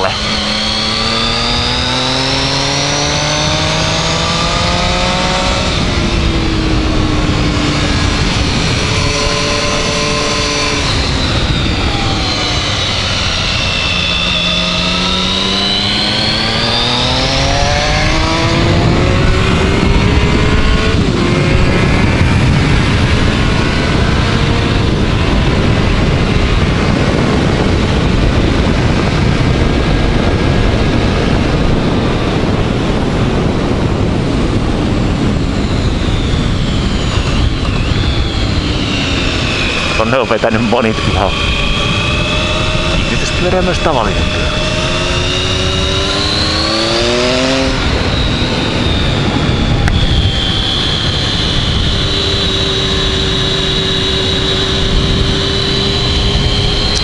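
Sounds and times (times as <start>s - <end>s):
loud steady rushing noise: 0.0s - 57.0s
motorcycle engine revving: 0.0s - 57.0s.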